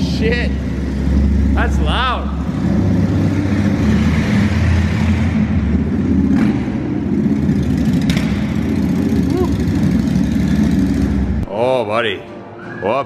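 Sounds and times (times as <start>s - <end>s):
motorcycle engine running loud: 0.0s - 11.4s.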